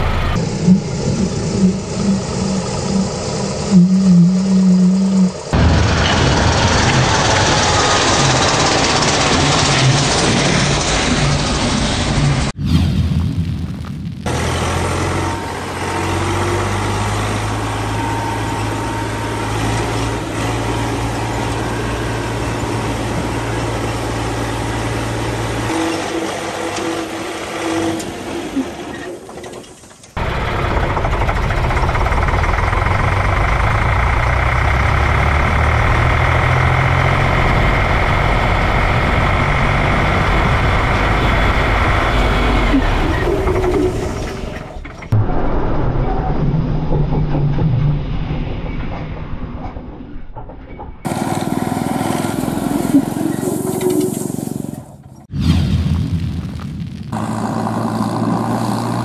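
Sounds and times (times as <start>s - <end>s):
tractor diesel engine: 0.0s - 12.6s, 14.3s - 45.2s, 51.0s - 55.3s, 57.1s - 59.0s
tractor driving over: 0.0s - 12.6s, 14.1s - 55.3s, 57.1s - 59.0s.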